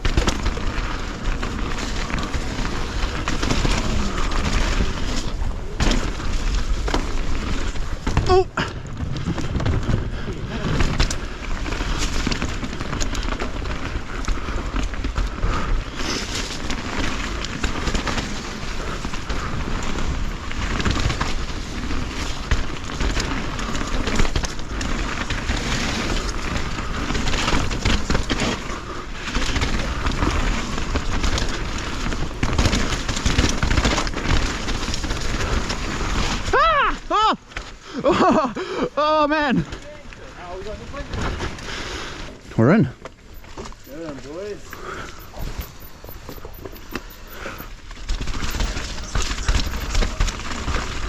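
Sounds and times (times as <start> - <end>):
bike rattling and knocking: 0.0 - 51.0
tyres rumbling on dirt: 0.0 - 51.0.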